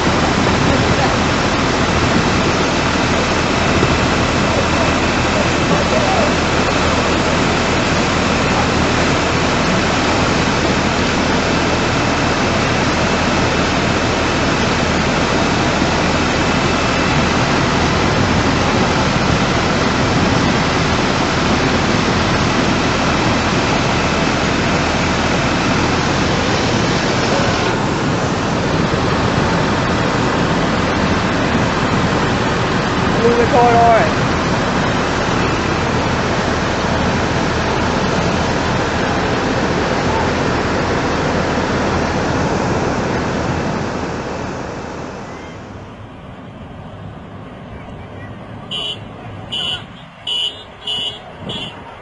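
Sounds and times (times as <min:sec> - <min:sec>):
flood water rushing: 0:00.0 - 0:52.0.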